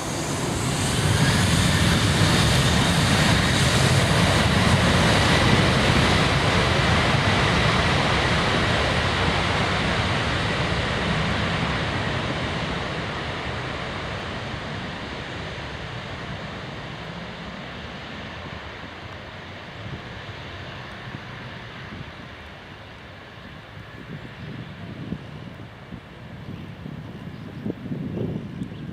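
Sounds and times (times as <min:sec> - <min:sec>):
jet engines roaring: 0:00.0 - 0:28.9.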